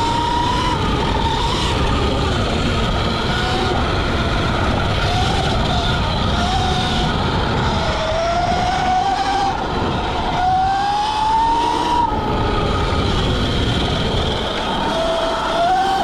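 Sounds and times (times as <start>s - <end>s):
electric dirt bike whining: 0.0s - 16.0s
rough rushing noise: 0.0s - 16.0s.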